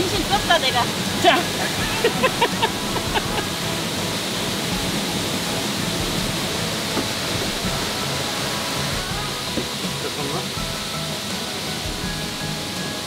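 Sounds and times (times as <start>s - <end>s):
high voices: 0.0s - 11.3s
mountain stream rushing: 0.0s - 13.0s.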